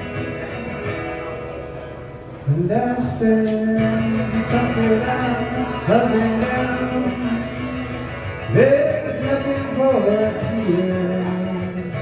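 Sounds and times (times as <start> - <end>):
guitar accompaniment: 0.0 - 12.0.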